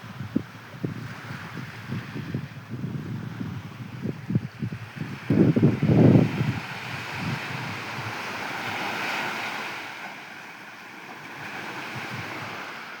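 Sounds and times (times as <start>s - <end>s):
ocean surf on beach: 0.0s - 13.0s
wind buffeting microphone: 0.0s - 13.0s.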